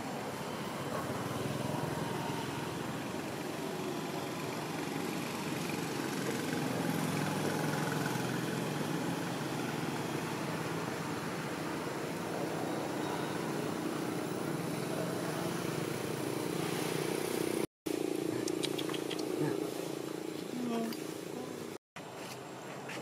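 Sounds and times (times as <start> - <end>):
engine droning: 0.0 - 21.8.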